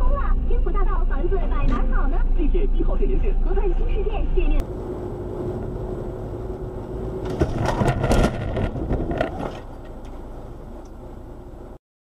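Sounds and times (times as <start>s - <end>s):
road and engine noise: 0.0s - 11.8s.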